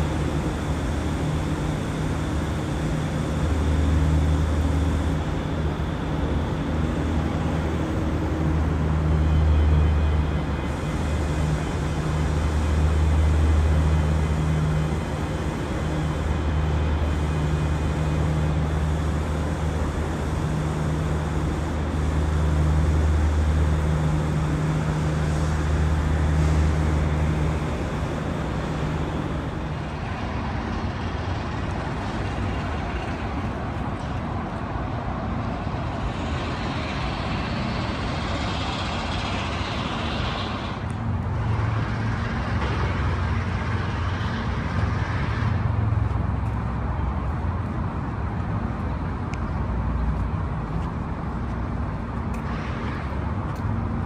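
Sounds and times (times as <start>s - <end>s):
low engine hum: 0.0s - 54.0s
urban traffic: 0.0s - 54.0s.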